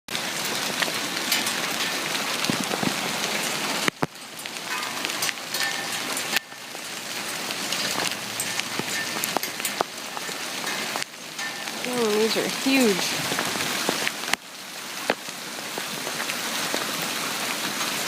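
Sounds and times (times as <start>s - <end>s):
hailstones clattering: 0.1s - 18.0s.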